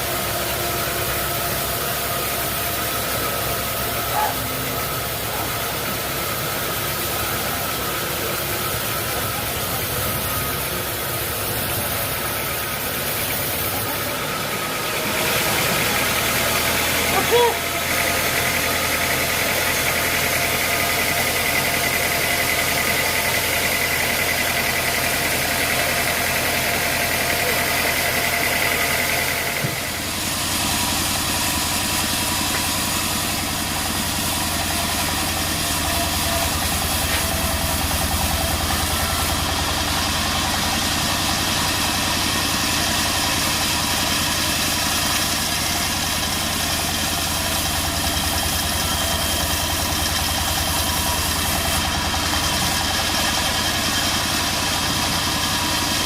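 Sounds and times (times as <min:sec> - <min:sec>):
high machine whine: 0:00.0 - 0:56.0
sawmill machinery humming: 0:00.0 - 0:56.0.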